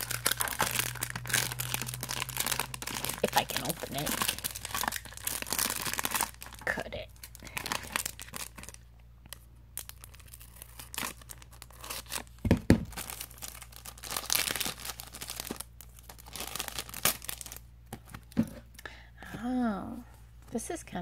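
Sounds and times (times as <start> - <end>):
plastic wrapping crinkling: 0.0 - 18.6.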